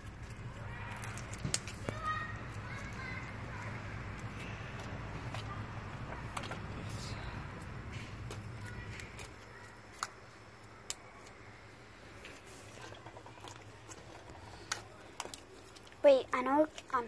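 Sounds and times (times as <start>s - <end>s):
slime being squished: 0.0s - 17.0s.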